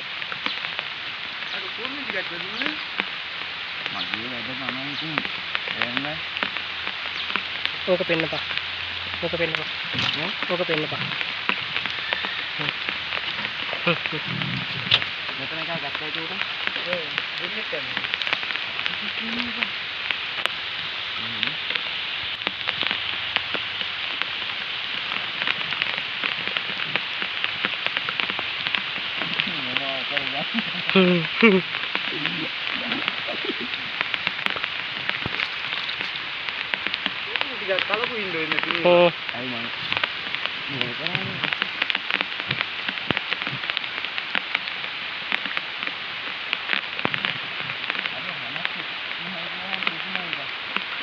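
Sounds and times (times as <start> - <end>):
rain falling on water: 0.0 - 51.0.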